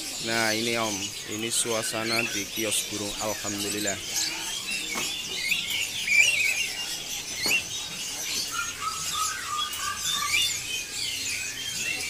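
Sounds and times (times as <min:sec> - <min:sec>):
songbirds chirping and warbling: 0:00.0 - 0:12.0.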